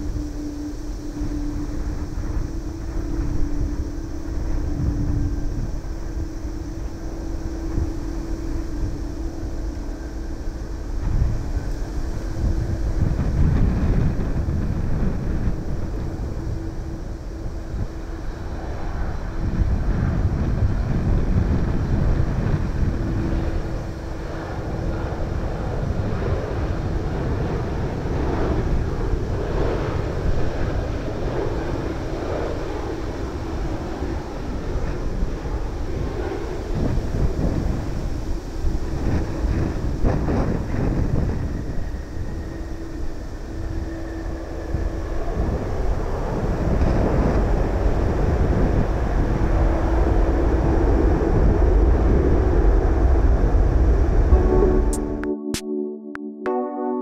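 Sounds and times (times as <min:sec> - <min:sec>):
wind buffeting microphone: 0:00.0 - 0:55.2
jet engines droning: 0:00.0 - 0:55.4
low hum: 0:00.0 - 0:55.5.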